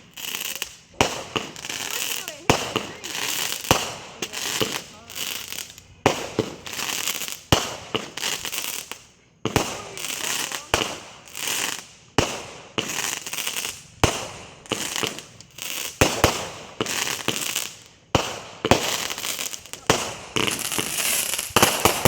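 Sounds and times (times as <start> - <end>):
crackling hissing firework trails: 0.0 - 22.0
firework bangs: 0.0 - 22.0.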